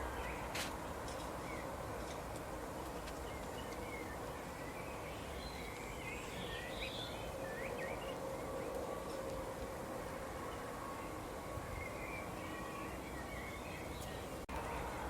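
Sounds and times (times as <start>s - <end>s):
outdoor background hiss and rumble: 0.0s - 15.0s
small birds chirping: 0.1s - 9.4s, 10.1s - 15.0s.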